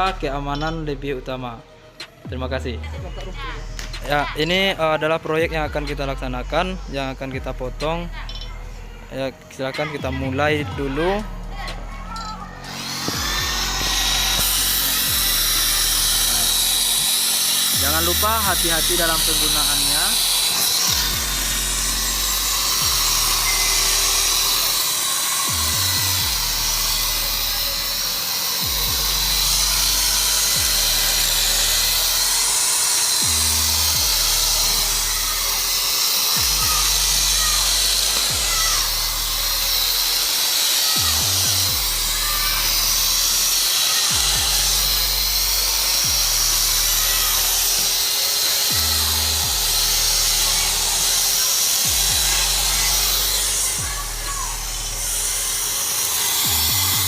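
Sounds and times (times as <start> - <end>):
background music with bass line: 0.0 - 57.0
electric drill whining: 0.0 - 57.0.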